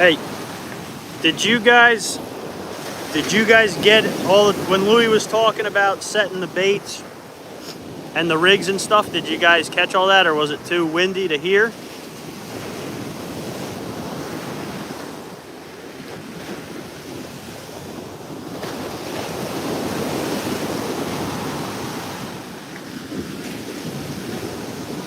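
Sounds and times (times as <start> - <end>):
wind buffeting microphone: 0.0 - 10.7, 11.6 - 25.0
ocean surf washing on beach: 0.0 - 25.0.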